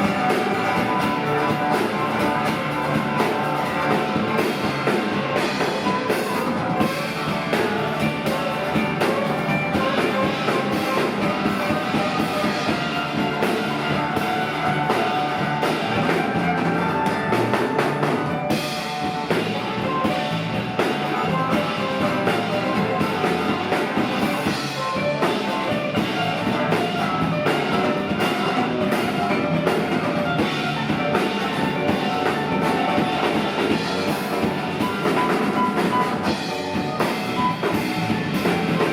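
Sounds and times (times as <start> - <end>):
drum kit: 0.0 - 38.9
electric guitar: 0.0 - 38.9
live rock band playing: 0.0 - 38.9.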